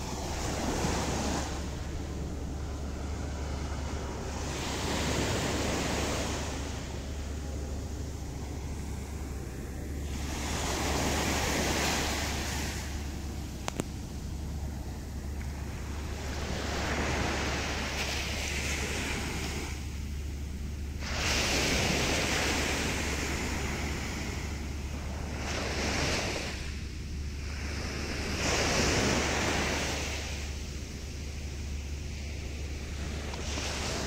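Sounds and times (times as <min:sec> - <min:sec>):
low rumble: 0:00.0 - 0:34.0
waves breaking on rocks: 0:00.0 - 0:34.0.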